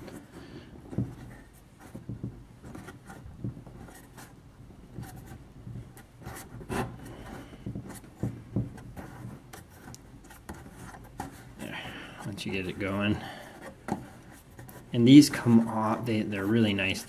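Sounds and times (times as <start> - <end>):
plastic rubbing and creaking: 0.0 - 17.0.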